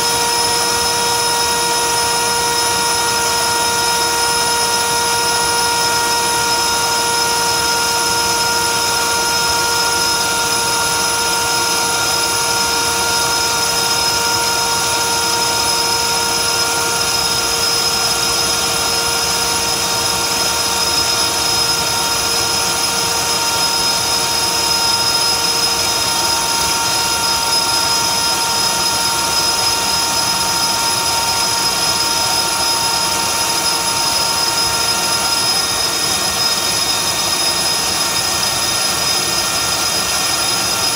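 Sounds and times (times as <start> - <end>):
electric ducted fan whine: 0.0 - 40.9.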